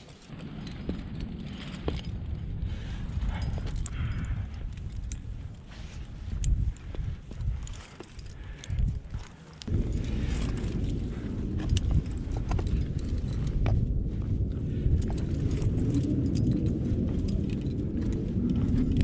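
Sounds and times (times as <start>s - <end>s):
climbing gear clicking on rock: 0.0s - 19.0s
wind buffeting microphone: 0.0s - 19.0s.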